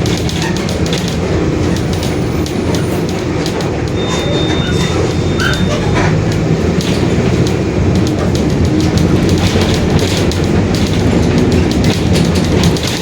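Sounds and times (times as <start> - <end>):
bus diesel engine droning: 0.0 - 13.0
rattling clatter: 0.0 - 13.0.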